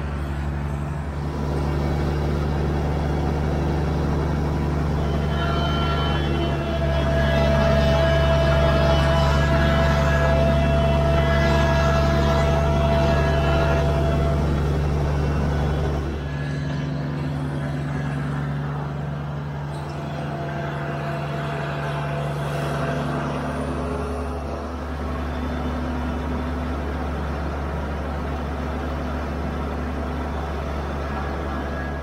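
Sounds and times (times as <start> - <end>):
diesel tractor engine drone: 0.0 - 32.0.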